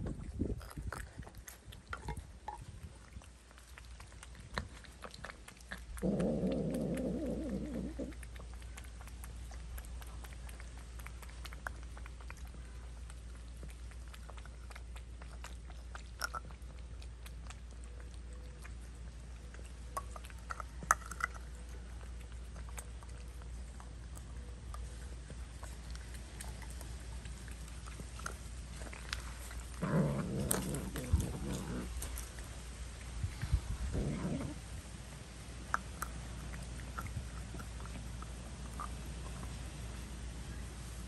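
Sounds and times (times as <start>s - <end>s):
cats chewing and licking: 0.0s - 41.0s.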